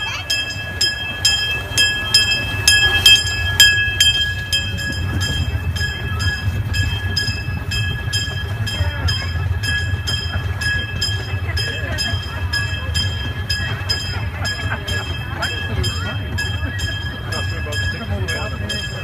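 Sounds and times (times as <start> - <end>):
miniature steam train rumbling: 0.0 - 19.0
steady high-pitched tones: 0.0 - 19.0.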